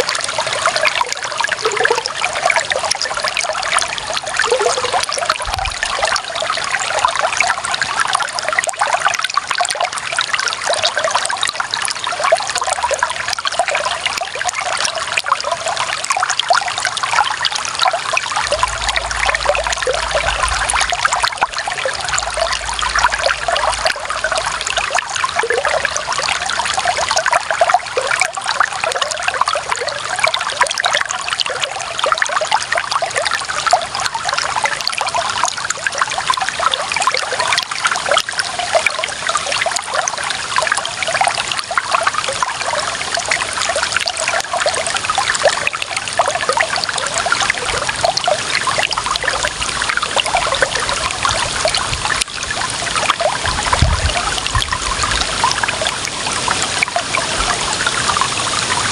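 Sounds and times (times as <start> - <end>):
water trickling over stones: 0.0 - 58.9.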